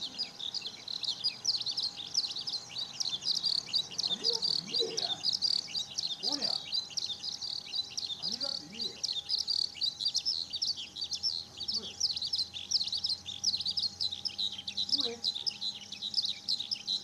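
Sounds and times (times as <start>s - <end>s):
faint steady hum: 0.0s - 17.0s
skylark singing: 0.0s - 17.0s.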